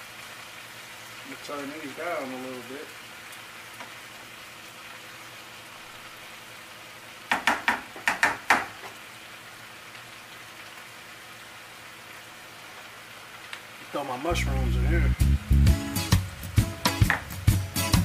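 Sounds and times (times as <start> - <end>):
greens sizzling in a skillet: 0.0 - 18.0.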